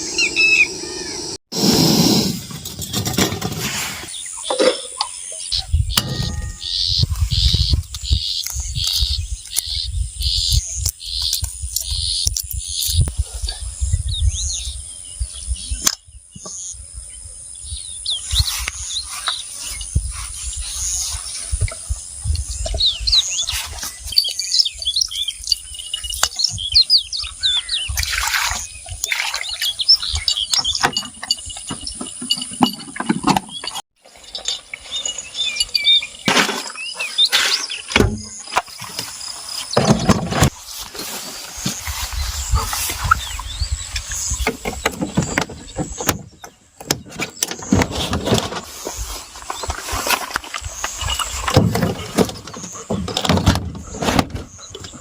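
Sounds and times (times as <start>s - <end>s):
birds chirping and calling: 0.0s - 1.4s, 2.6s - 55.0s.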